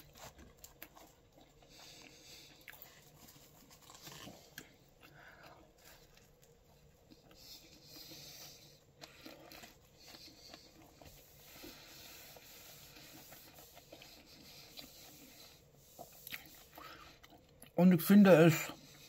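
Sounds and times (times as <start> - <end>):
faint chewing: 0.0 - 17.8.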